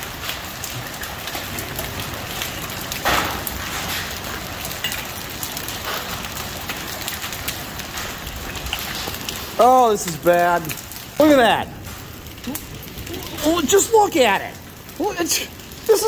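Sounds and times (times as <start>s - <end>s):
hail and rain pelting a car: 0.0s - 16.0s.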